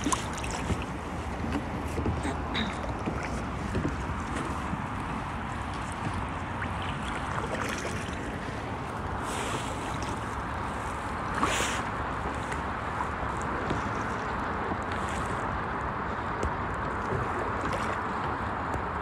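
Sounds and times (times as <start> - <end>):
water rushing: 0.0 - 19.0
water swishes: 0.0 - 19.0.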